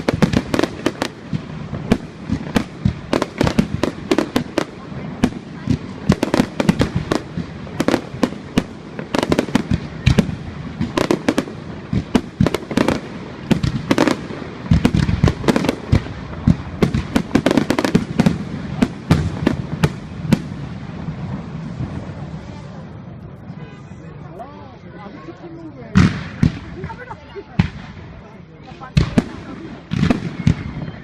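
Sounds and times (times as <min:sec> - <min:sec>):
deep firework booms: 0:00.0 - 0:23.9, 0:25.9 - 0:31.0
fireworks bangs and crackling: 0:00.0 - 0:31.0.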